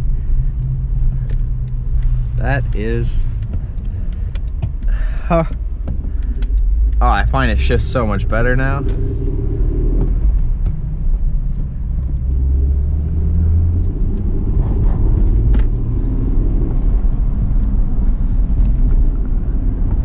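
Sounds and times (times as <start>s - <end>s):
car engine drone: 0.0s - 20.0s
road rumble: 0.0s - 20.0s.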